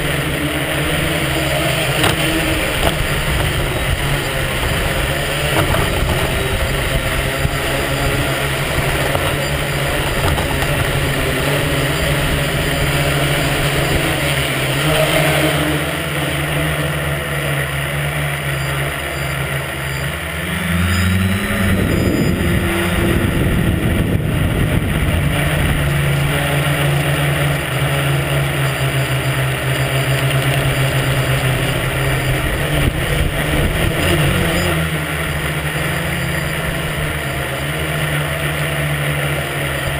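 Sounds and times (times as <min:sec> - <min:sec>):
drone motors and propellers buzzing: 0:00.0 - 0:39.9
prop wash rumble on microphone: 0:00.0 - 0:39.9.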